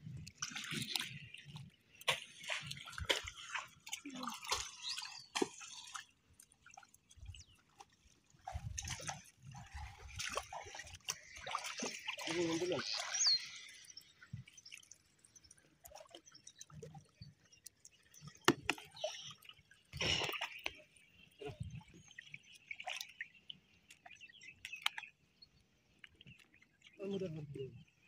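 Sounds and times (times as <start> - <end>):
water splashing and dripping: 0.0 - 28.0.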